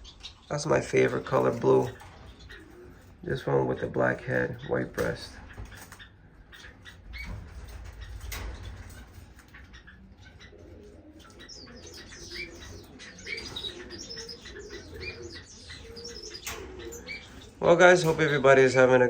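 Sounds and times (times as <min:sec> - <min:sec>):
finches chirping and calling: 0:00.0 - 0:19.0.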